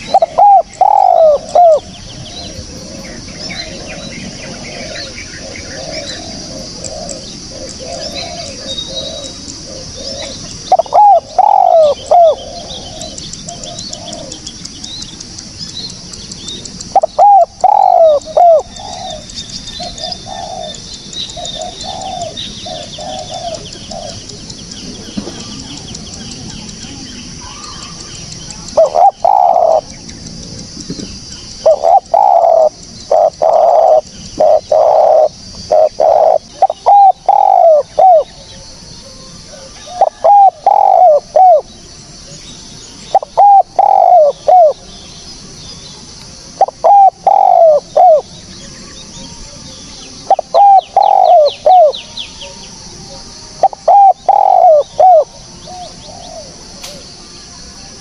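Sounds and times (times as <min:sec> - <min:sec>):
dove cooing: 0:00.0 - 0:14.6, 0:16.0 - 0:42.4, 0:43.1 - 0:44.9, 0:46.5 - 0:57.1.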